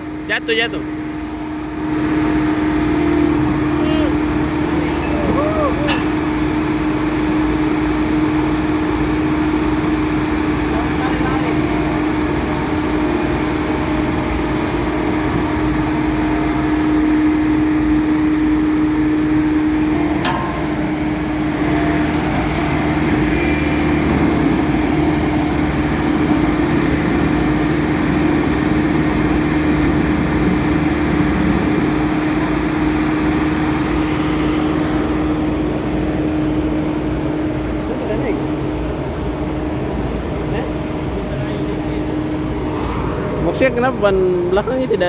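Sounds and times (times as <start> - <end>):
diesel roller engine under load: 0.0 - 42.7.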